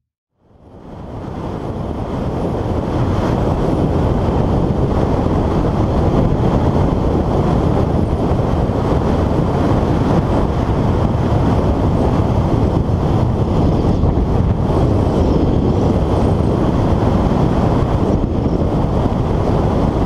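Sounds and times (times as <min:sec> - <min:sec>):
wind buffeting a camera: 0:00.5 - 0:20.0.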